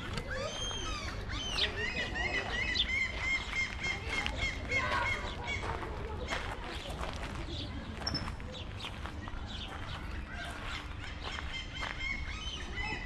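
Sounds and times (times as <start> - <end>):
crunching on gravel: 0.0 - 12.2.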